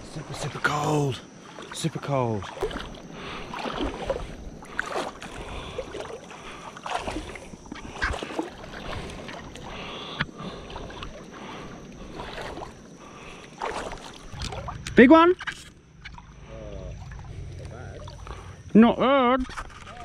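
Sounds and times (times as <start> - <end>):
wading through water splashing: 0.0 - 18.7.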